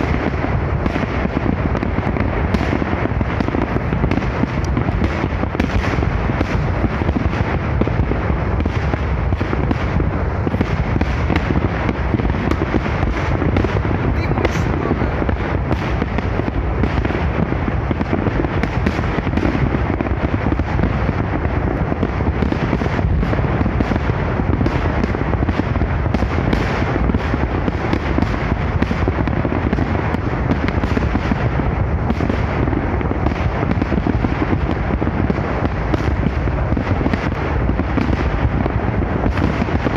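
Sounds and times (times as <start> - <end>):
fireworks bursts and crackle: 0.0 - 39.9
heavy low rumble: 0.0 - 39.9.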